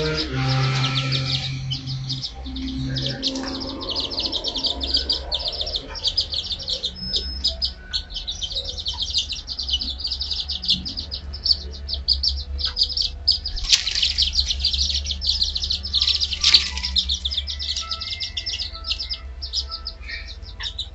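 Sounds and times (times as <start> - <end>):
chicks peeping: 0.0 - 20.9.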